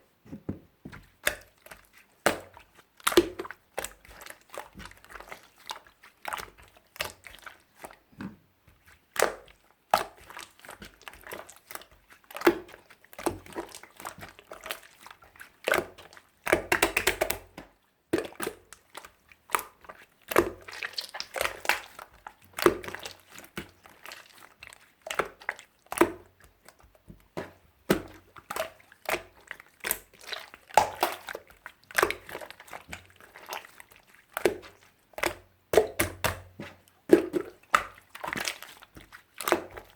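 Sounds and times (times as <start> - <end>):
slime squished by hand: 1.1 - 39.9.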